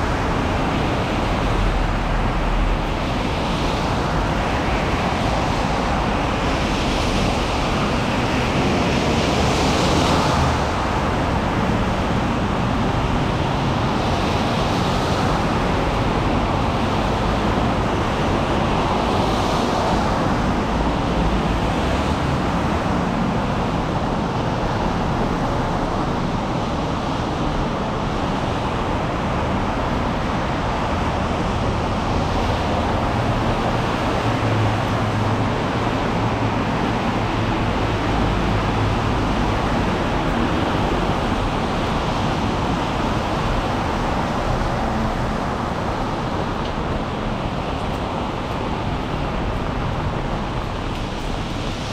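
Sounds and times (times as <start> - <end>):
rain: 0.0 - 51.9.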